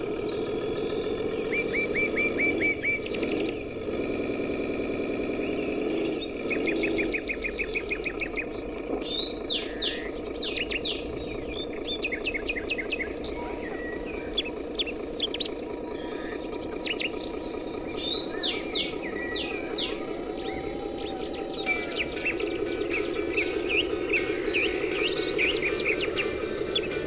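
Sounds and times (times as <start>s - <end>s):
birds chirping and trilling: 0.0s - 27.0s
steady low hum: 0.0s - 27.0s.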